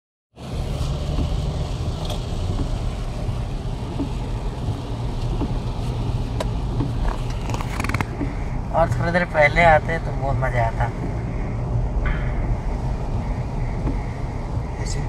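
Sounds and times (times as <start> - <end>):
car engine and road noise: 0.3 - 15.0.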